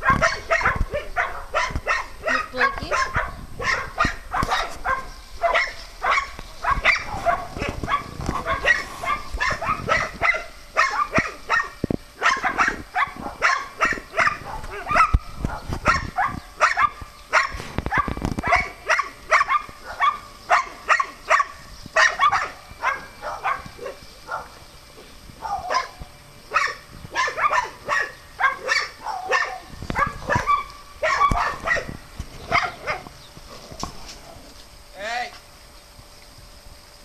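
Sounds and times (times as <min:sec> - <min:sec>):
dogs barking: 0:00.0 - 0:24.6, 0:25.4 - 0:33.2.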